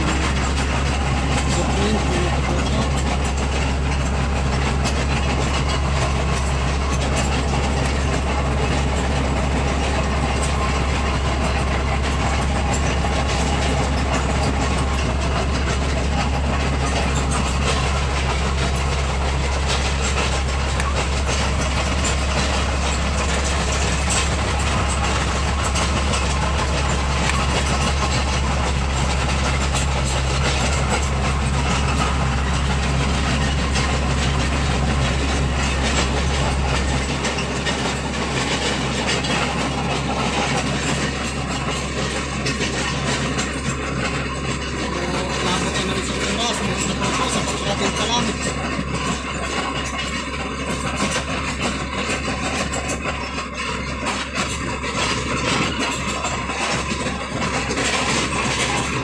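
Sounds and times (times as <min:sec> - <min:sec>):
bulldozer diesel engine droning: 0:00.0 - 0:59.0
steel tracks clattering: 0:00.0 - 0:59.0.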